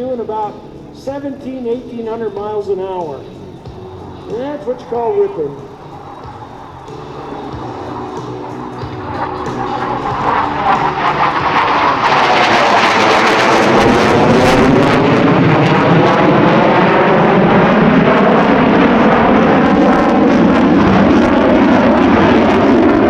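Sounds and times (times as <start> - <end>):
jet fighter passing low: 0.0 - 23.0.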